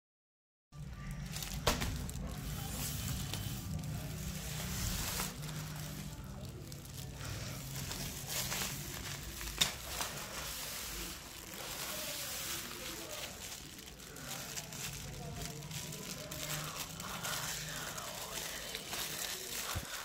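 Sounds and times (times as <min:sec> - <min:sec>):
low steady hum: 0:00.8 - 0:20.0
plastic wrapping crinkling: 0:00.8 - 0:20.0
sharp plastic crackles: 0:00.8 - 0:20.0.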